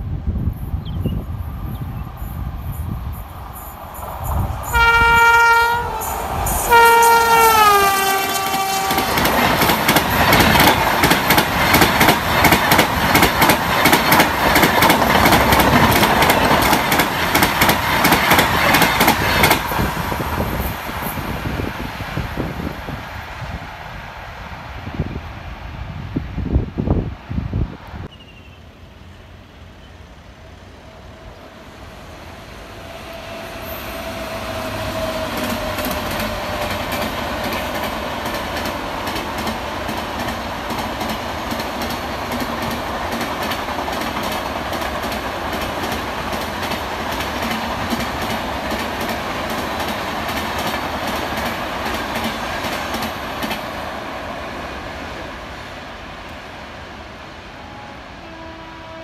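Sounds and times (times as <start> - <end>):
train passing at high speed: 0.0 - 59.0.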